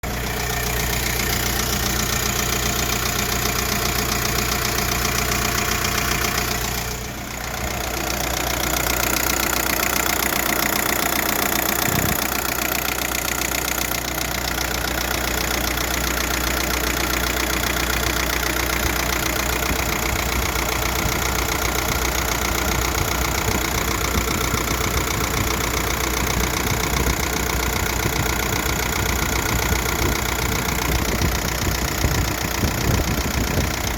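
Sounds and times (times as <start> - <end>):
diesel engine idling: 0.0 - 33.9
odd engine noise: 0.0 - 33.9.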